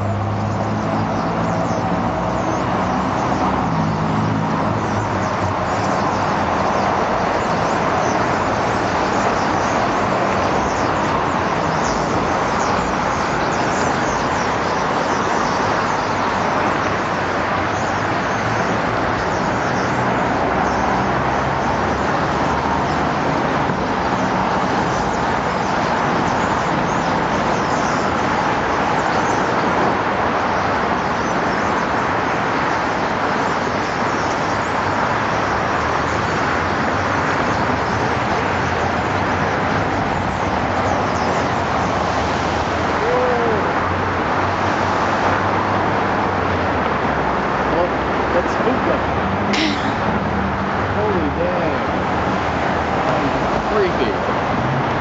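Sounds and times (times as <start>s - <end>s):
city road traffic: 0.0s - 55.0s.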